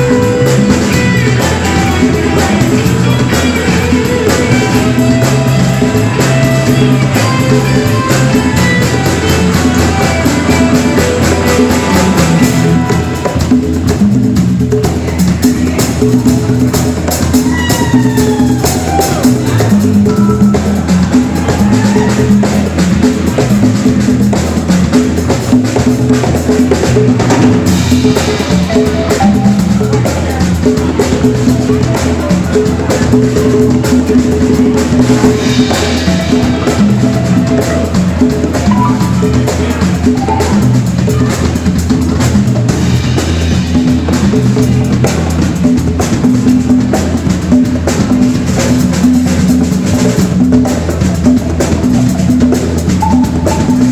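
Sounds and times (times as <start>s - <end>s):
bass drum and rimshots: 0.0s - 53.9s
live band playing: 0.0s - 53.9s.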